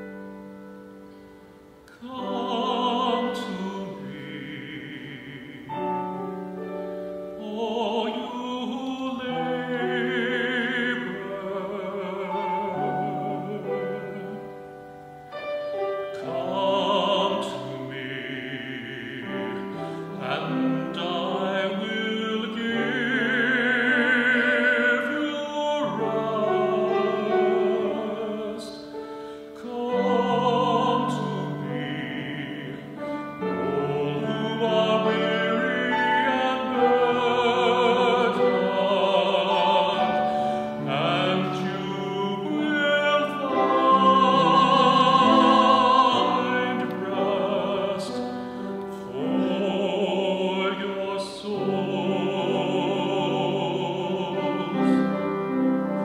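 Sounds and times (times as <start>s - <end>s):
person singing with vibrato: 0.0s - 56.0s
piano accompaniment: 0.0s - 56.0s.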